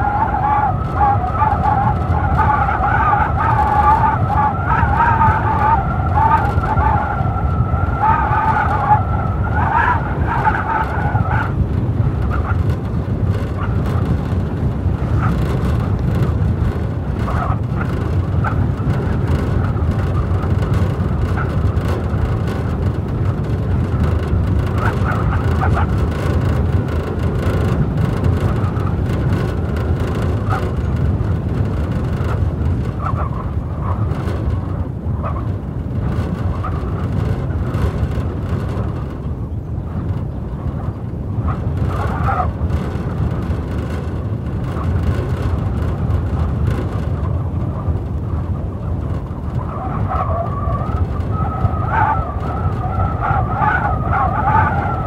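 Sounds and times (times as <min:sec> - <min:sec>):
blizzard wind rumbling: 0:00.0 - 0:55.0
whistling wind howl: 0:00.0 - 0:55.0.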